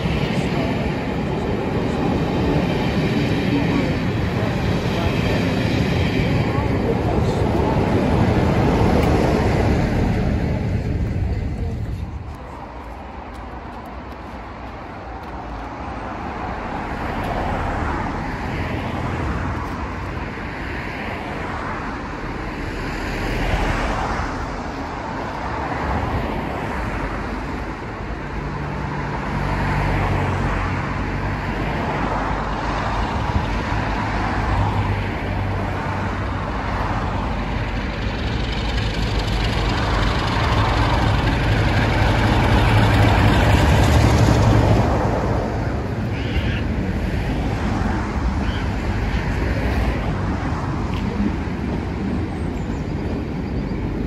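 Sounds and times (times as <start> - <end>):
diesel locomotive engine drone: 0.0 - 54.0
train approaching on track: 0.0 - 54.0.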